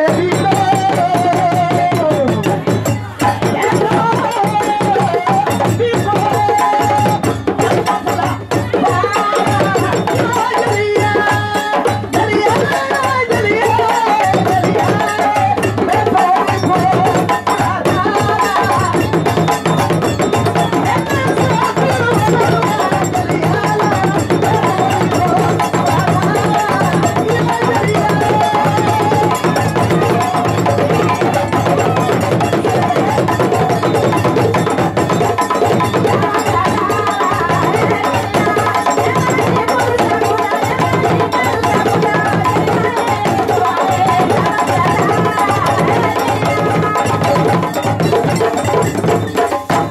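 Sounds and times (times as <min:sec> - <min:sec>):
hand drums and bass drums: 0:00.0 - 0:49.9
voices singing: 0:00.0 - 0:49.9.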